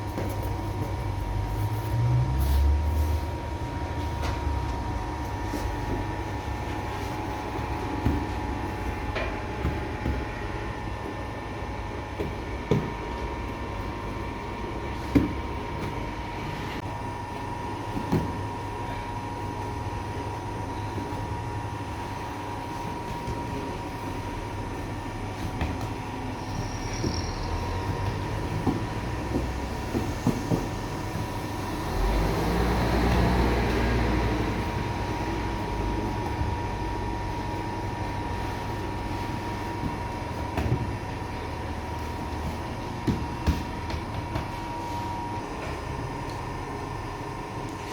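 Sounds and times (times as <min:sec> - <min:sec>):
bakery machinery humming: 0:00.0 - 0:47.9
constant machine whine: 0:00.0 - 0:47.9.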